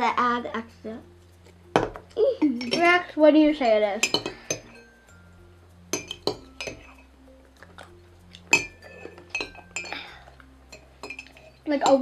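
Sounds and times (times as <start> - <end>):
metal spoons clinking against mugs: 1.7 - 12.0.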